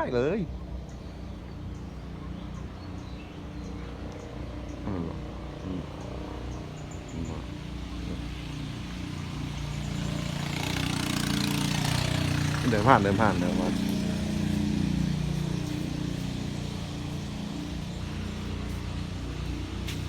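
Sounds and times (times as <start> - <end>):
small motorcycle engine running: 0.7 - 20.0.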